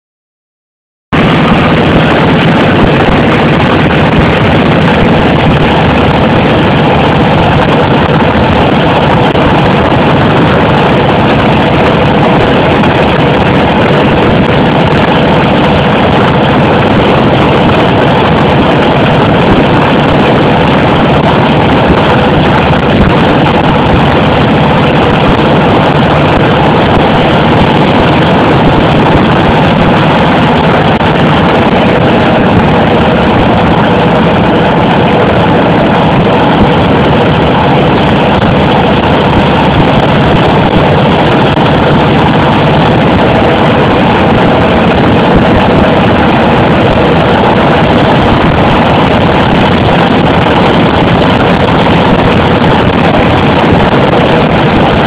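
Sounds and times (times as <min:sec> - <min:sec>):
motorcycle engine running: 0:01.1 - 0:55.0.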